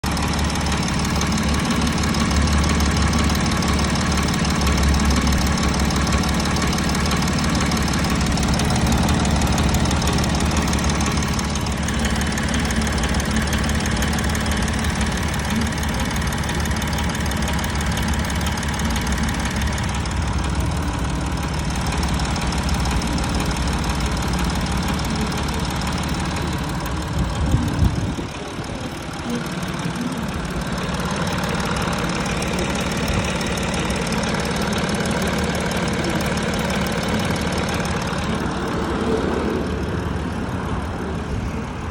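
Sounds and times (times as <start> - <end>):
diesel engine idling with knock: 0.0 - 41.9.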